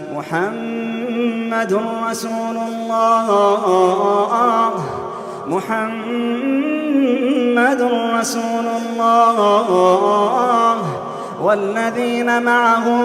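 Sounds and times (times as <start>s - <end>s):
man chanting a melodic recitation: 0.0s - 13.0s.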